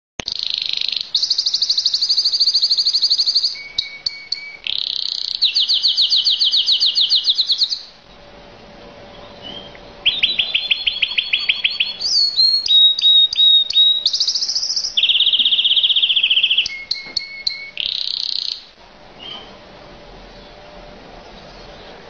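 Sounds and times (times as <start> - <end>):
canary singing: 0.2 - 8.3, 9.1 - 19.6.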